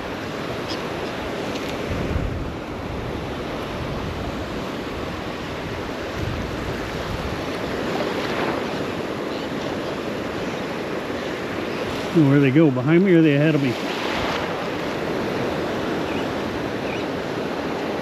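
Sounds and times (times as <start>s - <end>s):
surf waves breaking: 0.0s - 18.0s
wind buffeting microphone: 0.0s - 18.0s.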